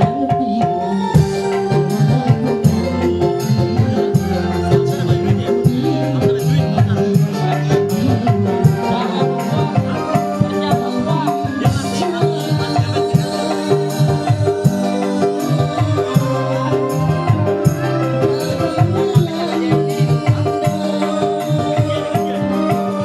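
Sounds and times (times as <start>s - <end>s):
electronic keyboard: 0.0s - 23.0s
hand-drum and shaker rhythm: 0.0s - 23.0s
man singing through microphone: 0.0s - 23.0s.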